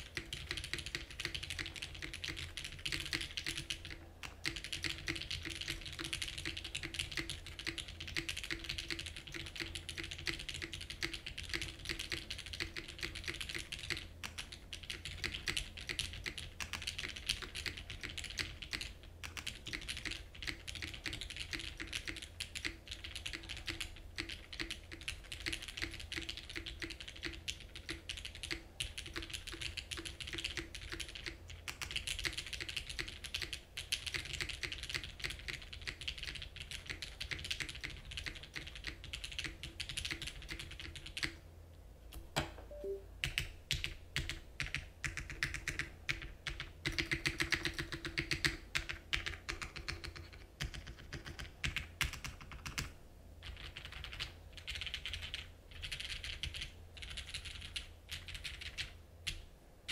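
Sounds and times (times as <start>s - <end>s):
fast typing on mechanical keyboard: 0.0s - 41.4s, 43.2s - 59.9s.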